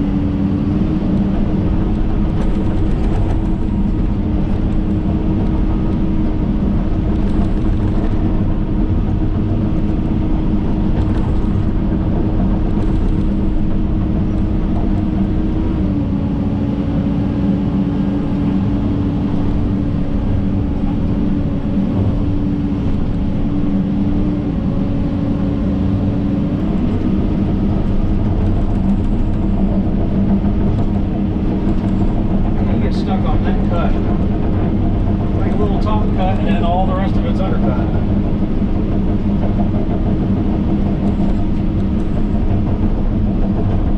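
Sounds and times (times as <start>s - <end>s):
excavator diesel engine running: 0.0s - 43.9s
steady whine: 0.0s - 43.9s.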